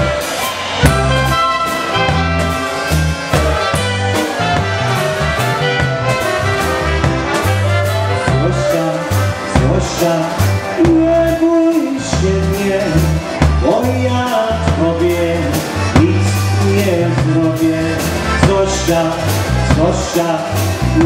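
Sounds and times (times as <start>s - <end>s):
bass line: 0.0s - 21.0s
clarinet and trumpet melody: 0.0s - 21.0s
drum kit: 0.0s - 21.0s.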